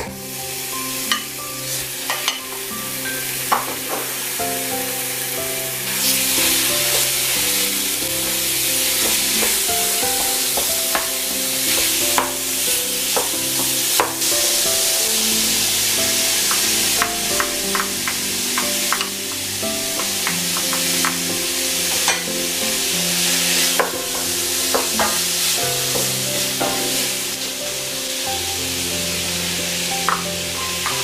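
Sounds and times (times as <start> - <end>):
meat sizzling in a pan: 0.1 - 31.0.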